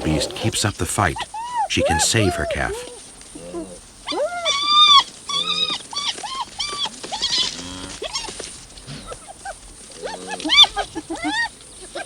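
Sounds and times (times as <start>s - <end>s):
hyenas and jackals yelping: 0.0s - 12.0s.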